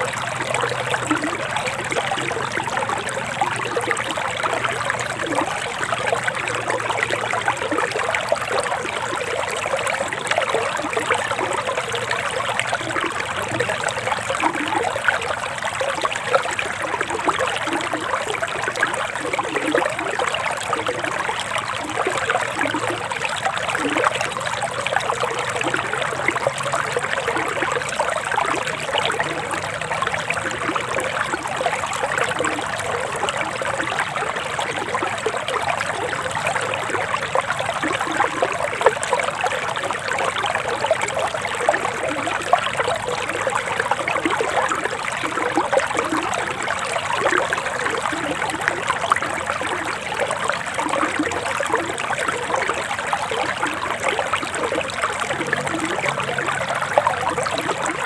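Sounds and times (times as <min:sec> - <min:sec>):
stream trickling and bubbling: 0:00.0 - 0:58.0.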